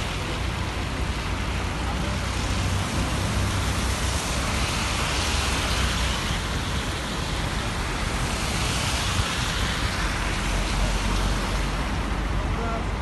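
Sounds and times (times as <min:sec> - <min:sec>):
floodwater rushing: 0:00.0 - 0:13.0
heavy rain: 0:00.0 - 0:13.0
vehicles driving on wet road: 0:00.0 - 0:13.0.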